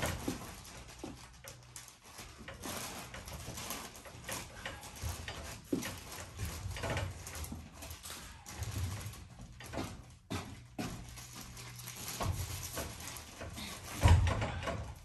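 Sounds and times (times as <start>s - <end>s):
footsteps: 0.0s - 14.7s
insulation rustling: 0.0s - 15.0s.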